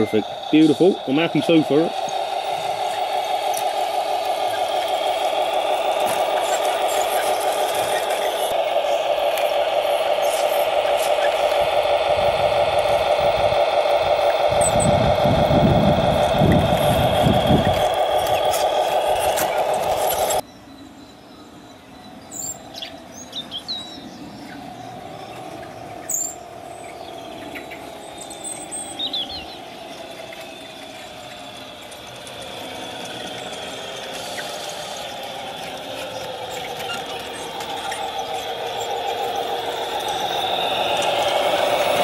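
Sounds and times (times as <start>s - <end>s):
toy truck electric motor whining: 0.0s - 20.4s, 24.1s - 42.0s
birds chirping: 0.0s - 42.0s.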